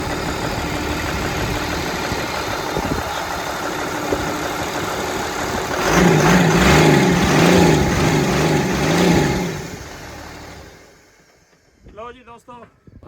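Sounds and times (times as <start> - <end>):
diesel engine running: 0.0 - 11.8.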